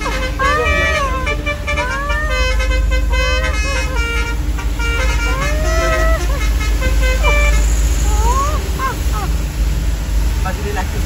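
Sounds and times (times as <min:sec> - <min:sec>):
air horns playing warbling tune: 0:00.0 - 0:09.1
road and engine rumble: 0:00.0 - 0:11.0.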